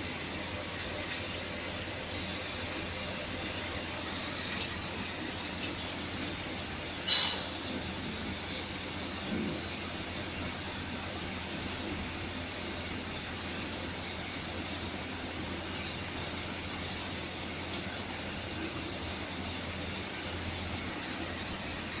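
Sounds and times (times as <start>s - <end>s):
low constant hum: 1.9s - 22.0s.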